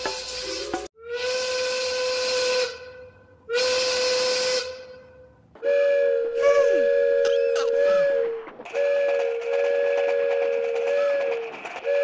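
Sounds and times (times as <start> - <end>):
steam locomotive whistle: 0.0 - 12.0.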